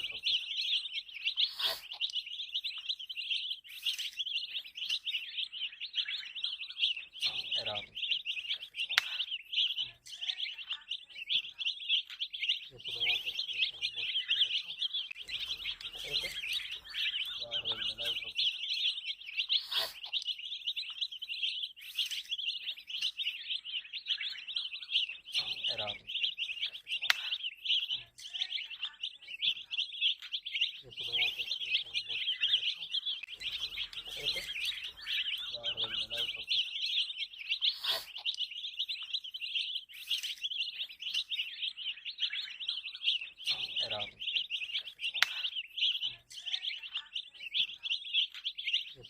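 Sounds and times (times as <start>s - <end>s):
baby chicks peeping: 0.0s - 49.0s.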